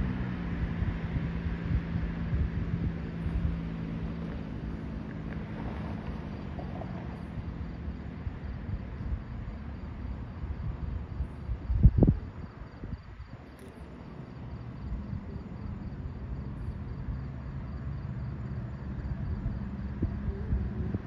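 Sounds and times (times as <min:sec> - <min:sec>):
faint cricket chirping: 0:00.0 - 0:21.0
low hum: 0:00.0 - 0:21.0
wind rumbling on microphone: 0:00.0 - 0:21.0.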